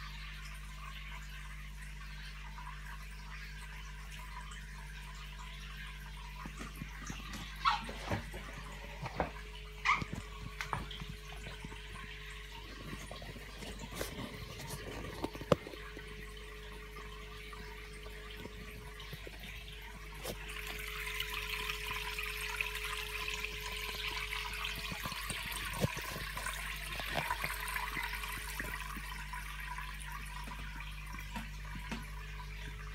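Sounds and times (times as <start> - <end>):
water trickling and splashing: 0.0 - 32.9.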